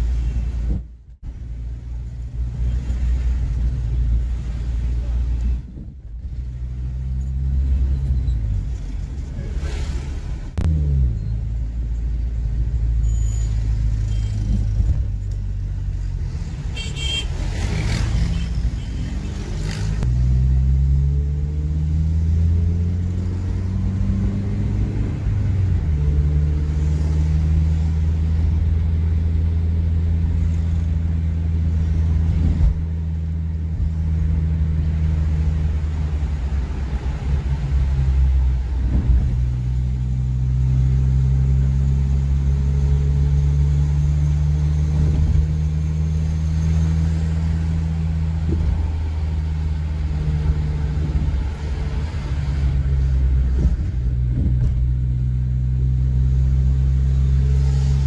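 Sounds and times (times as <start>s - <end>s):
car engine and tyres droning: 0.0s - 58.0s.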